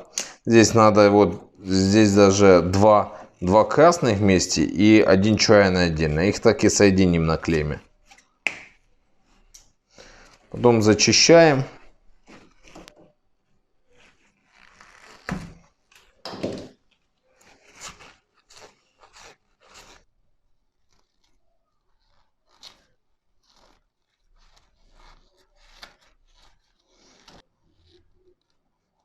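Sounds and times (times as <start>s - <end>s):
tool scraping plastic wire sheath: 0.0s - 29.0s.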